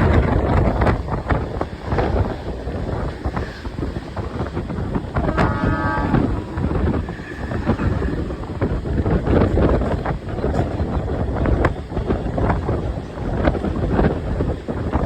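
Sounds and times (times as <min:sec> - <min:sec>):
train rumbling and clattering: 0:00.0 - 0:15.0
wind buffeting microphone: 0:00.0 - 0:15.0.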